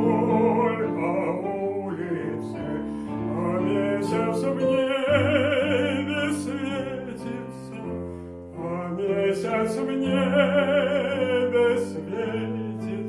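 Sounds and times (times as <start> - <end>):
man singing classical song: 0.0 - 13.0.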